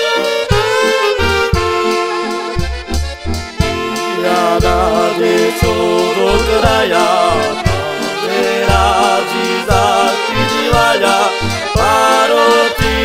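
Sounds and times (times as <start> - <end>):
folk band music: 0.0 - 13.0.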